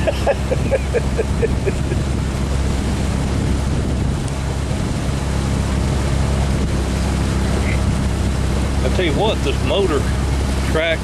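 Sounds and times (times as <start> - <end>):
outboard motor running: 0.0 - 11.0
water noise: 0.0 - 11.0
wind on microphone: 0.0 - 11.0.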